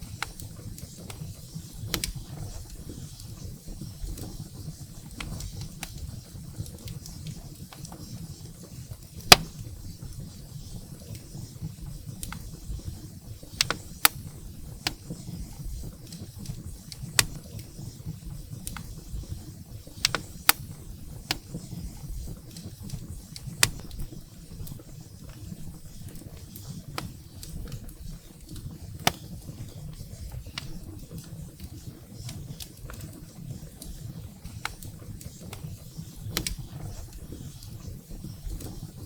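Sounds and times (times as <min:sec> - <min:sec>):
firewood crackling and popping: 0:00.0 - 0:39.0.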